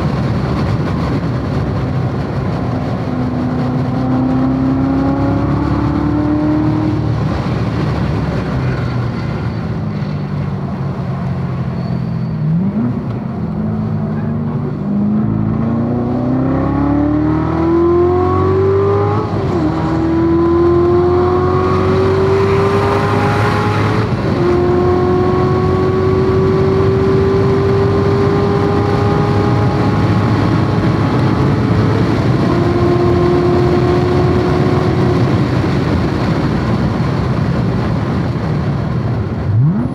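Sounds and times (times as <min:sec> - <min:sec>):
car engine accelerating through gears: 0:00.0 - 0:39.9
wind noise: 0:00.0 - 0:39.9.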